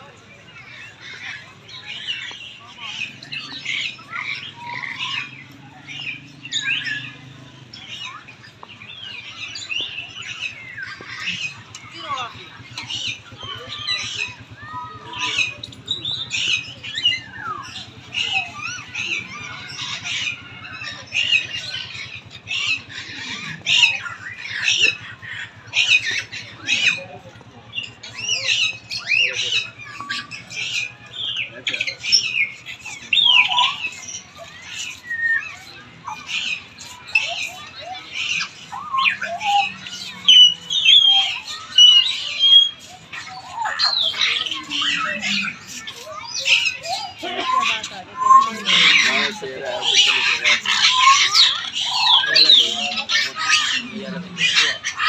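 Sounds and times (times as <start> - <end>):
birds squawking and chirping: 0.0 - 55.0.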